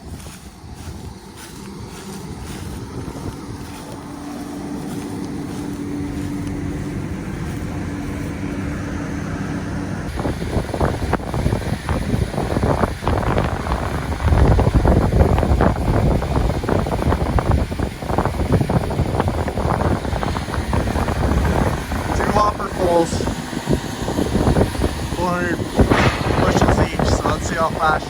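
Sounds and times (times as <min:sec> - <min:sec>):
heavy vehicle engine humming: 0:00.0 - 0:28.0
wind buffeting microphone: 0:00.0 - 0:28.0.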